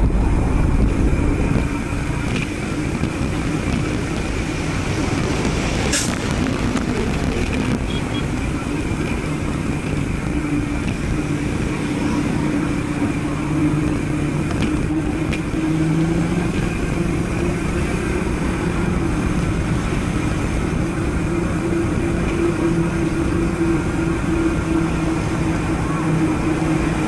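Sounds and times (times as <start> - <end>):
vehicle engine running: 0.0 - 27.0
wind and road noise: 0.0 - 27.0.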